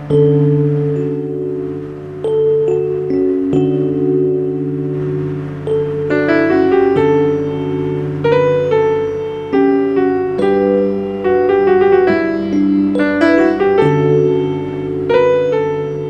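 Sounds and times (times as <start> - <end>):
keyboard music: 0.0 - 16.0.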